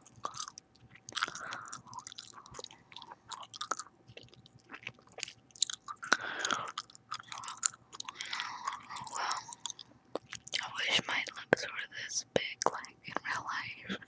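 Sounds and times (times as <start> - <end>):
gum chewing close up: 0.0 - 11.7.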